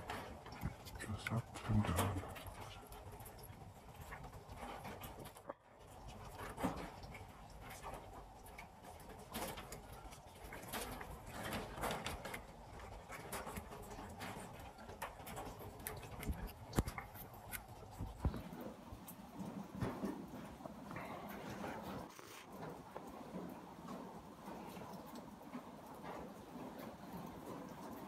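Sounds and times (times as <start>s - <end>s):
knocks and rattles of wire cages: 0.0s - 28.0s.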